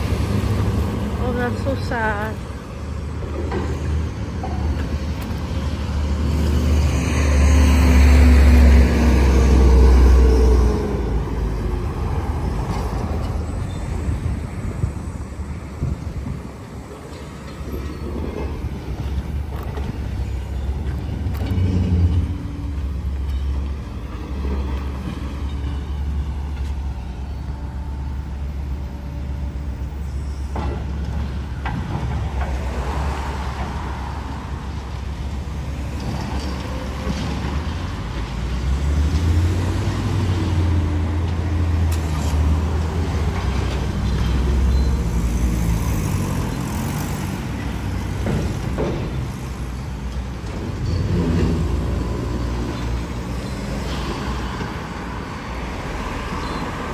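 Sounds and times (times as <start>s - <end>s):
road traffic passing: 0.0s - 56.9s.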